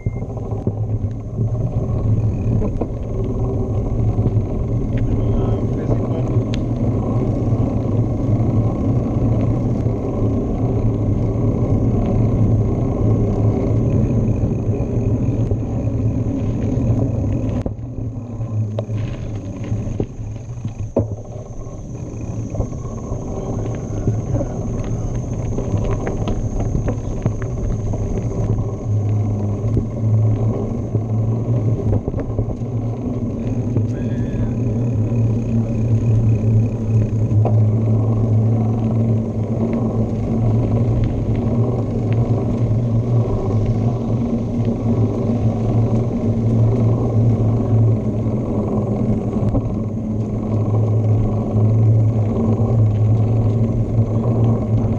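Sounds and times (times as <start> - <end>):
bicycle tyres rolling: 0.0 - 54.9
bike clicks and rattles: 0.0 - 54.9
wind on microphone: 0.0 - 54.9.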